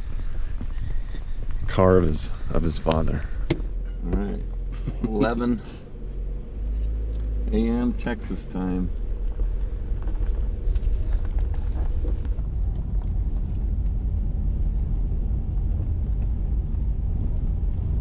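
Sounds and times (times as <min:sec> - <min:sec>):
engine and road rumble inside car: 0:00.0 - 0:18.0.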